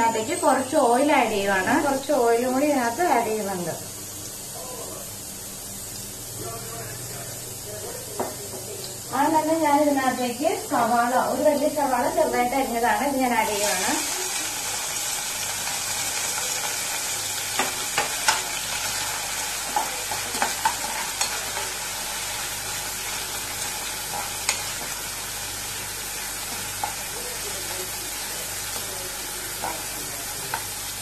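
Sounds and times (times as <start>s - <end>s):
onion sizzling in a pan: 0.0s - 31.0s.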